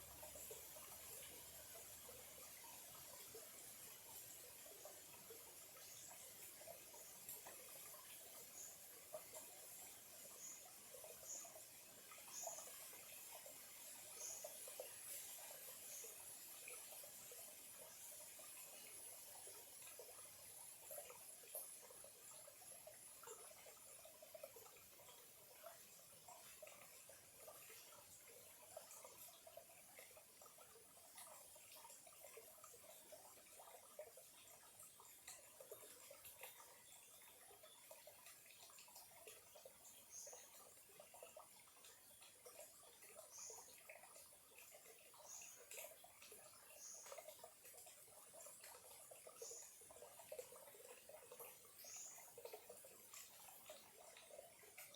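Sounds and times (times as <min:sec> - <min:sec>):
stream trickling and gurgling: 0:00.0 - 0:54.9.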